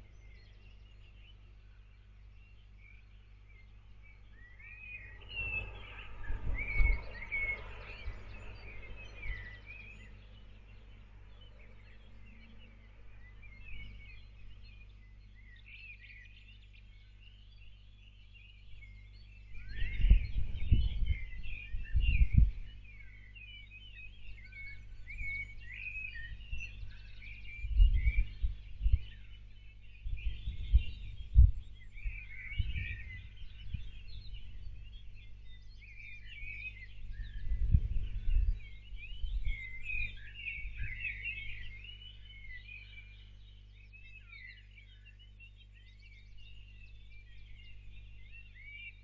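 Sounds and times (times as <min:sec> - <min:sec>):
birds chirping and whistling: 0:00.0 - 0:49.0
low steady hum: 0:00.0 - 0:49.0.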